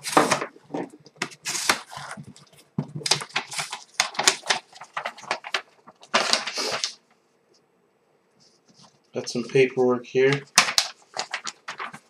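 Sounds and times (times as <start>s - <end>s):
paper rustling: 0.0s - 7.0s, 8.4s - 9.7s, 10.3s - 12.0s.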